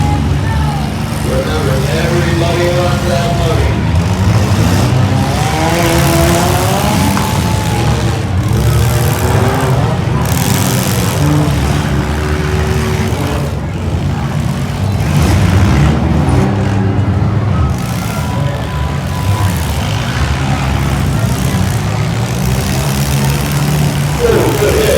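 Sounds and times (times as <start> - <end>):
car engines revving: 0.0 - 24.9.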